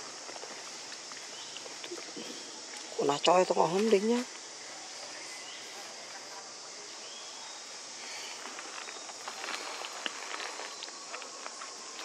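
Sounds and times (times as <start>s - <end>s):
rustles: 0.0s - 12.0s
steady high-pitched hiss: 0.0s - 12.0s.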